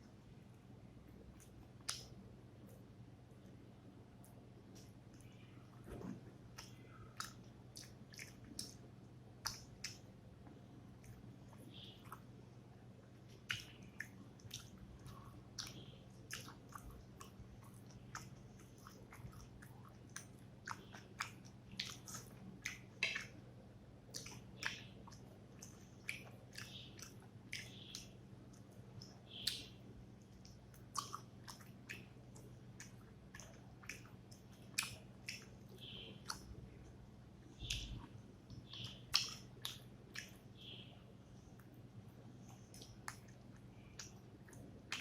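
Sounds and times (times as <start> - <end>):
person chewing with wet smacks: 0.5 - 2.9, 4.1 - 45.0.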